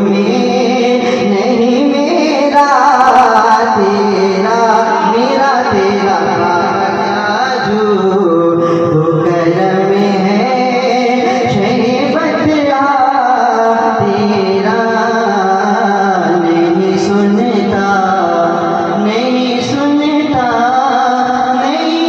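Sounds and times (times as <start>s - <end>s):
man singing over loudspeaker: 0.0s - 22.0s.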